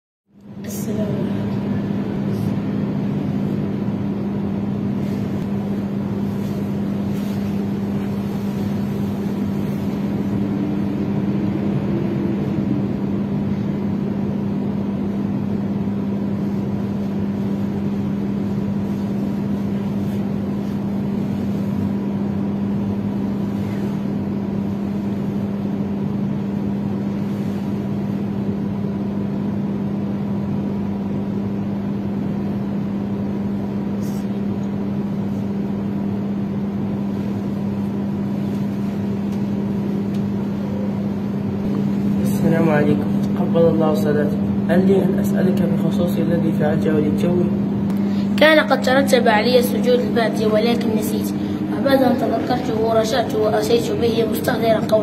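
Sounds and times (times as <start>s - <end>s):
air conditioner humming: 0.4s - 55.0s.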